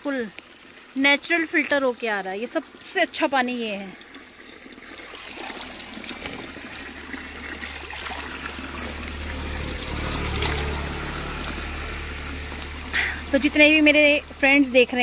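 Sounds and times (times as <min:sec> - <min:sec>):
water pouring from pipe and splashing: 0:00.0 - 0:15.0.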